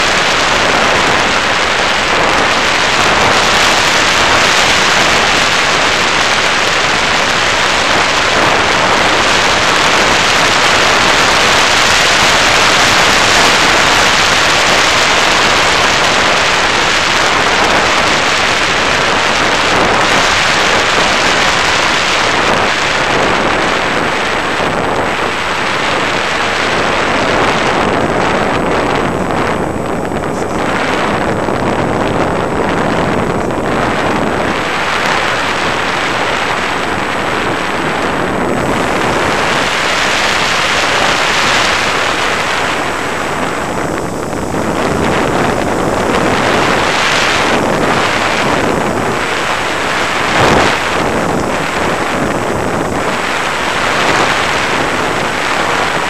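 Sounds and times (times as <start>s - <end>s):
faint high whine: 0.0s - 56.0s
model plane motor and propeller: 0.0s - 56.0s
rush of airflow over microphone: 0.0s - 56.0s.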